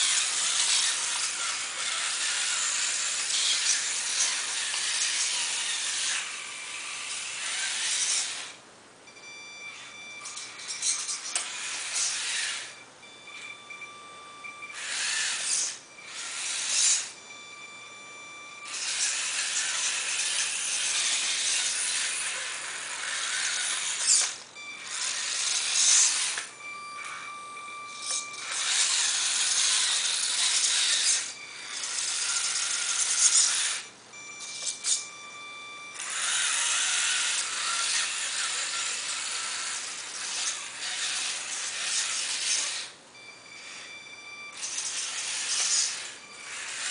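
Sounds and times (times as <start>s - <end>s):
small electric motor and gears: 0.0s - 8.6s, 9.6s - 46.9s
steady high-pitched tone: 9.0s - 46.9s.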